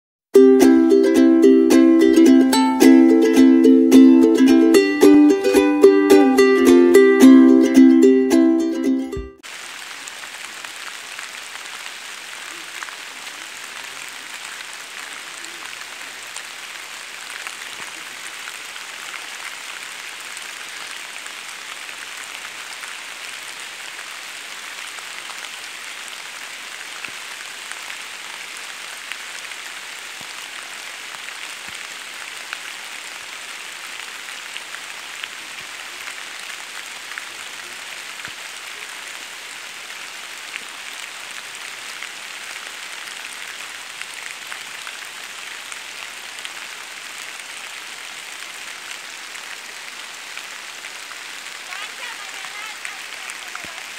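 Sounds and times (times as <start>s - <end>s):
rain on leaves: 0.4s - 53.9s.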